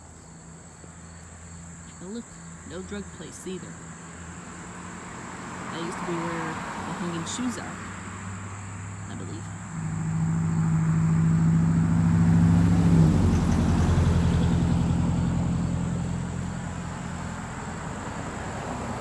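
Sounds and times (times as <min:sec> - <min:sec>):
motor vehicle driving past: 0:03.6 - 0:19.0.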